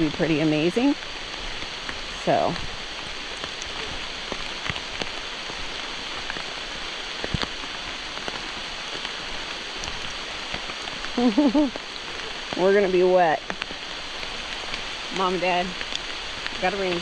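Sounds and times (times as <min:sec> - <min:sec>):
raindrops striking close by: 0:00.0 - 0:17.0
steady rain hissing: 0:00.0 - 0:17.0.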